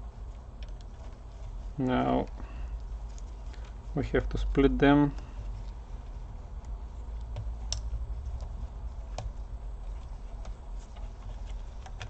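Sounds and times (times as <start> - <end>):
steady low hum: 0.0 - 12.0
light clicks of laptop parts: 0.1 - 12.0.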